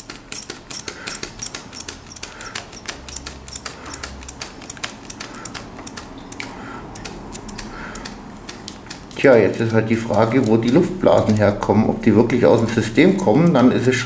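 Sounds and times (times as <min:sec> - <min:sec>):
hand vacuum pump clicking: 0:00.0 - 0:14.0.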